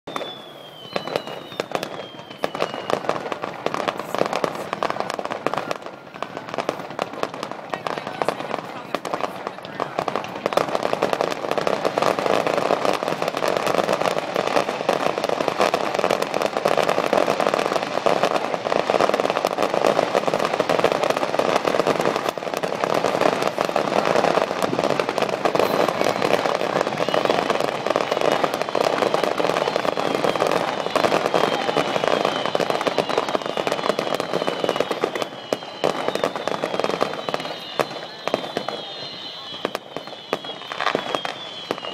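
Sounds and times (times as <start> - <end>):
fireworks whistling: 0.0 - 41.9
fireworks bangs and crackling: 0.1 - 41.9.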